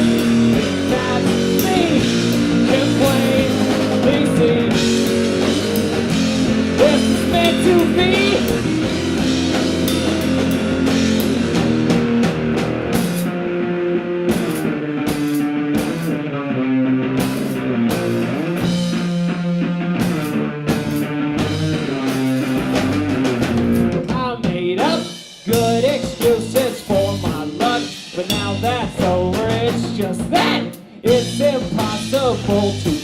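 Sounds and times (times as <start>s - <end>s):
drum kit with cymbals and snare: 0.0s - 16.3s, 17.2s - 33.0s
bass guitar: 0.0s - 33.0s
electric guitars: 0.0s - 33.0s.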